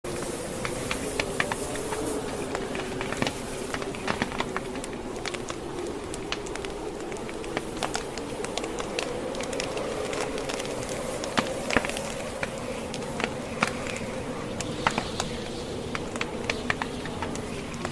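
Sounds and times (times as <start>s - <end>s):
wood fire crackling: 0.1s - 17.9s.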